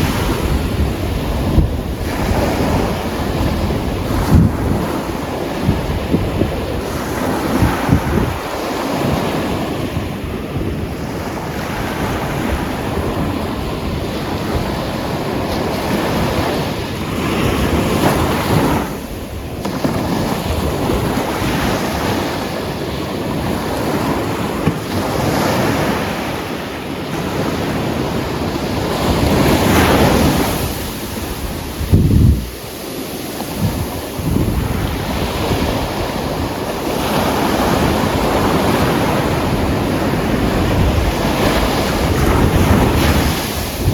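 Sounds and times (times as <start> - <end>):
waves breaking on beach: 0.0 - 43.9
wind buffeting microphone: 0.0 - 43.9.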